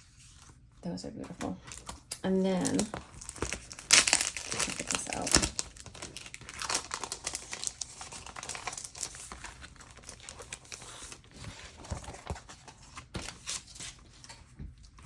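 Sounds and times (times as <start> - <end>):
packaging crinkling and rustling: 1.4 - 15.0.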